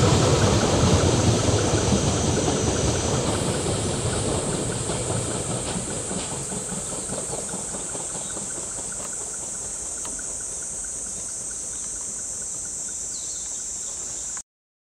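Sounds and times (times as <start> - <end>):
cicadas droning: 0.0 - 14.4
distant freight train rumble: 0.0 - 14.4.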